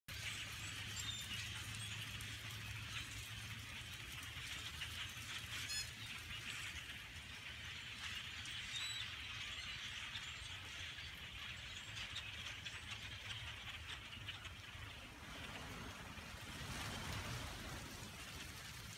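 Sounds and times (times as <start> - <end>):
flock of birds chirping: 0.1 - 18.9.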